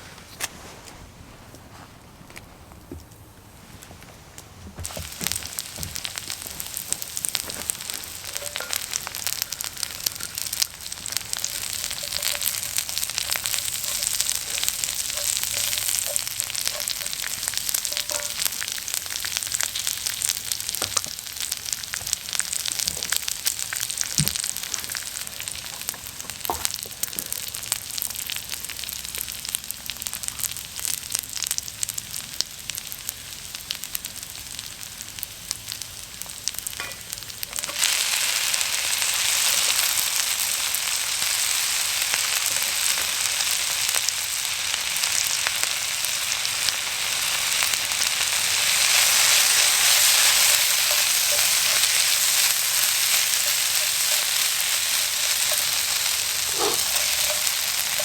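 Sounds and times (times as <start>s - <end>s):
food sizzling in a hot pan: 4.8s - 58.0s.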